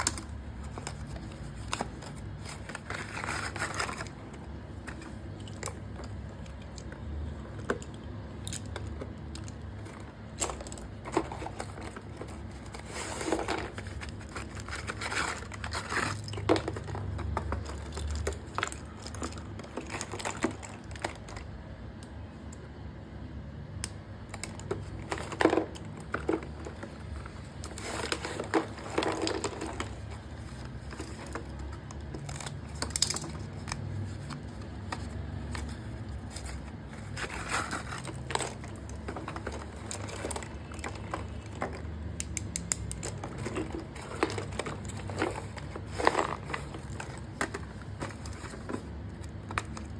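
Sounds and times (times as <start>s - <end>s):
packaging crinkling and rustling: 0.0s - 21.6s, 24.2s - 49.9s
sharp clicks of small items: 0.0s - 22.8s, 23.7s - 49.9s.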